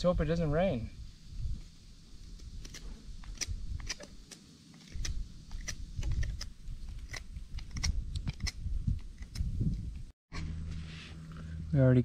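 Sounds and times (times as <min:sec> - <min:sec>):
campfire crackling: 0:00.1 - 0:10.1.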